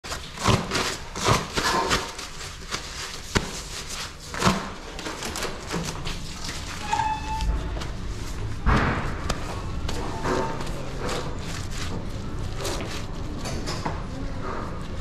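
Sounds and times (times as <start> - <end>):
paper towel crinkling: 0.0 - 15.0.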